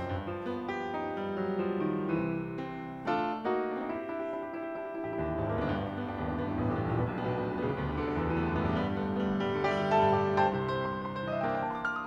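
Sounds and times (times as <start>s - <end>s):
piano playing blues: 0.0s - 12.0s.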